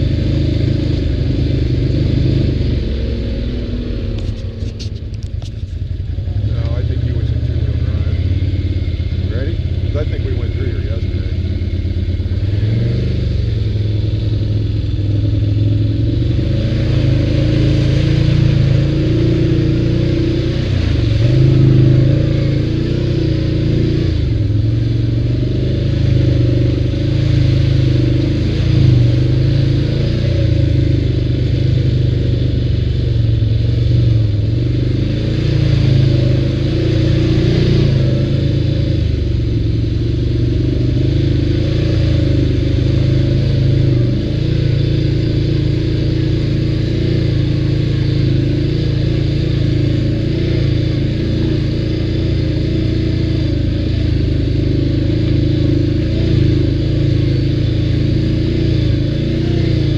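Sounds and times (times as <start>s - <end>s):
atv engine running under load: 0.0s - 59.9s
clatter over rough trail: 0.0s - 59.9s.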